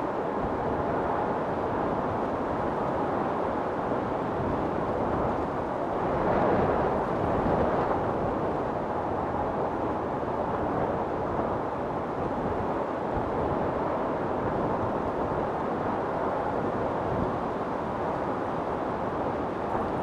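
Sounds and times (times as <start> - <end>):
storm wind blowing: 0.0 - 20.0.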